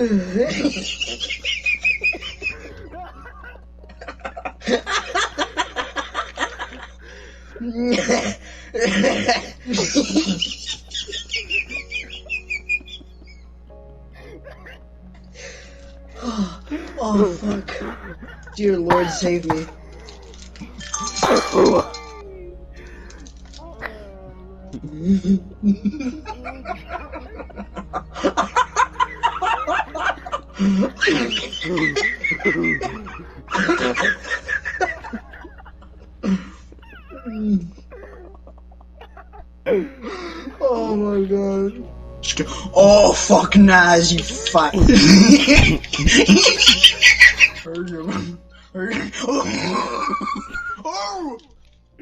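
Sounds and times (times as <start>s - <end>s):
young men laughing hysterically: 0.0s - 22.2s, 22.8s - 40.9s, 44.1s - 51.5s.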